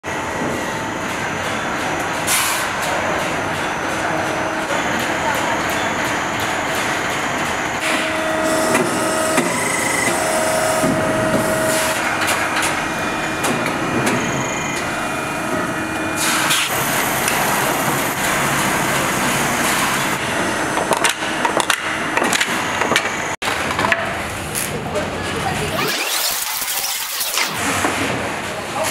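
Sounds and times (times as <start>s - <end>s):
machinery running: 0.1s - 23.6s, 25.4s - 28.3s.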